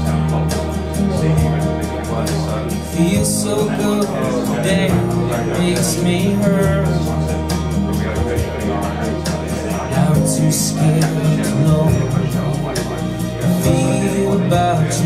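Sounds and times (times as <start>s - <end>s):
even beat: 0.0s - 15.0s
person singing: 0.0s - 15.0s
steady bass notes: 0.0s - 15.0s.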